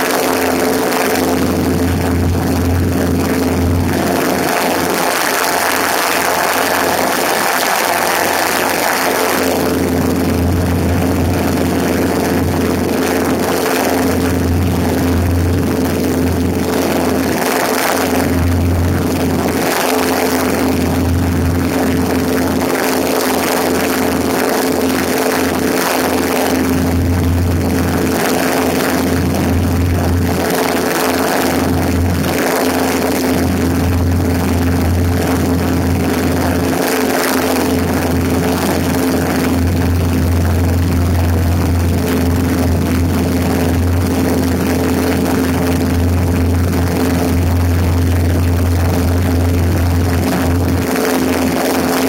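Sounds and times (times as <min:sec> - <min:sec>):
airplane engine droning: 0:00.0 - 0:52.0
wind rush on microphone: 0:00.0 - 0:52.0.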